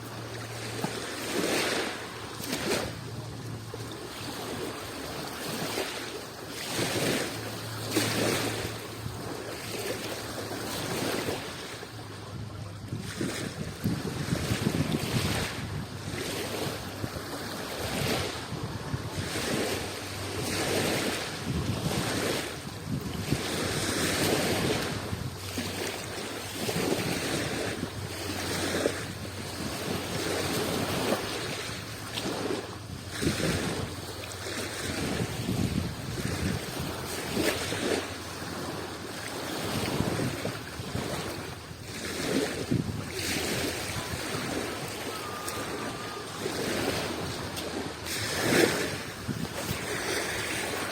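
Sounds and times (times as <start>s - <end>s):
sea waves washing in: 0.0s - 50.9s.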